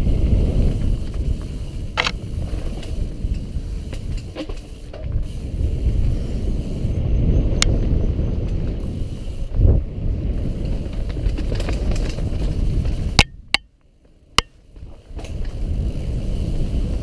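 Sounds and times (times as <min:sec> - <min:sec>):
bike chain rattling clicks: 0:00.1 - 0:09.6, 0:10.3 - 0:13.7, 0:14.3 - 0:17.0.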